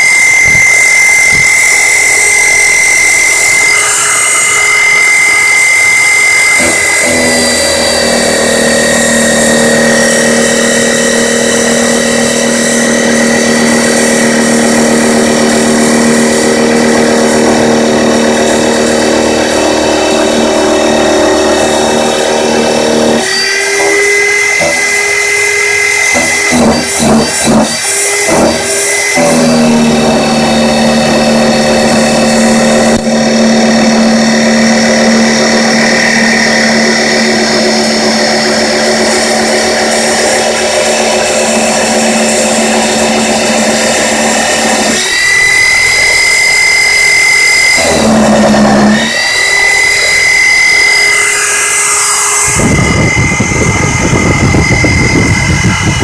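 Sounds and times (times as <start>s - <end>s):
cnc mill cutting aluminium: 0.0s - 56.0s.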